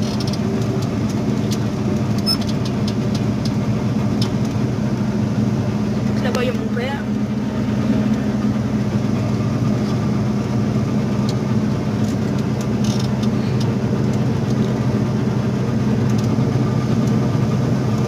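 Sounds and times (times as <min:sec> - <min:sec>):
combine harvester engine hum: 0:00.0 - 0:18.0.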